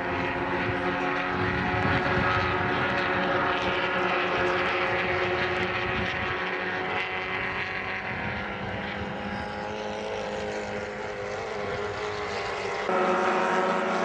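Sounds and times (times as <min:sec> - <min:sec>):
race car engines buzzing at high revs: 0:00.0 - 0:14.0.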